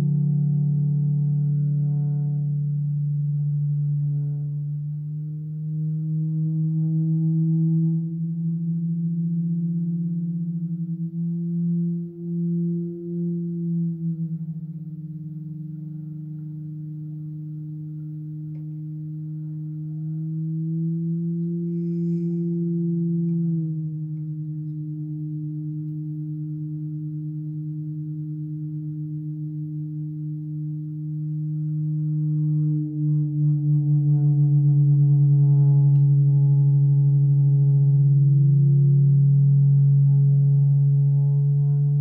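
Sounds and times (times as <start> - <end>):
pulsing string feedback drone: 0.0 - 42.0.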